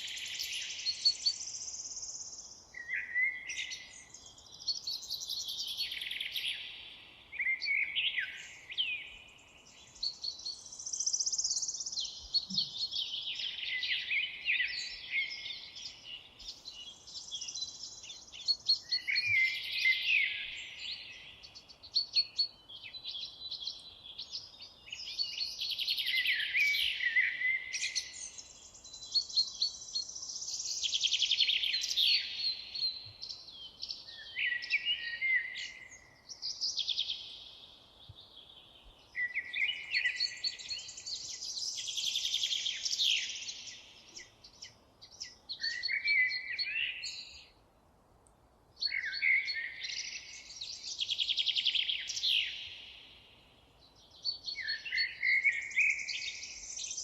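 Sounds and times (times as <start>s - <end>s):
songbird singing trills: 0.0s - 47.6s, 48.8s - 57.0s.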